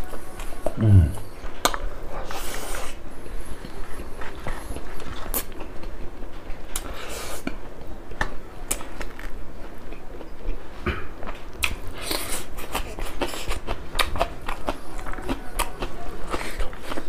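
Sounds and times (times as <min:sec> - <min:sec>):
chewing and lip-smacking: 0:01.5 - 0:17.0.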